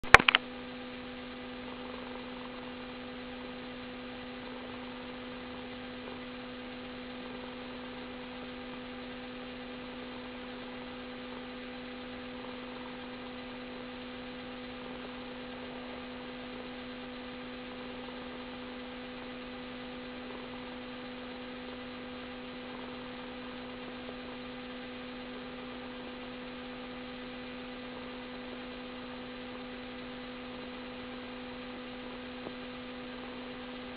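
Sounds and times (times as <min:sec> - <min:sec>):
electrical hum: 0:00.0 - 0:33.9.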